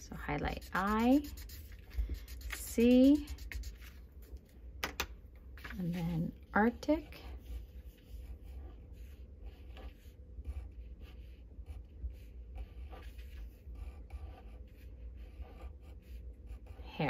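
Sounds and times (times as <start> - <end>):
low steady rumble: 0.0 - 17.0
pen scratching on paper: 0.2 - 3.9, 6.9 - 17.0.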